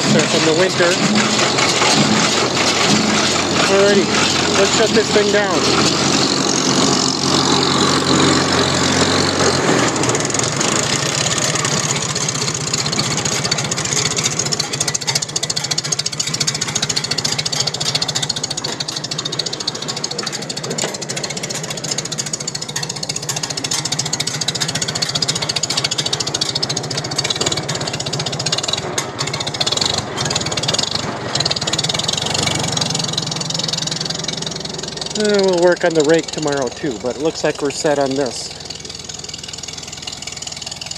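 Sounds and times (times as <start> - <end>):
baler mechanical clatter: 0.0 - 40.9
tractor engine: 0.0 - 40.9.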